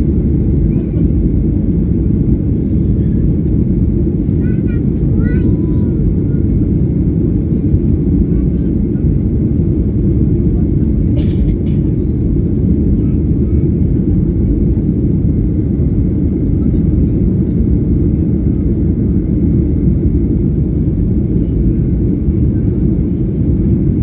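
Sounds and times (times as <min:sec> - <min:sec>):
jet engines rumbling in cabin: 0:00.0 - 0:24.0.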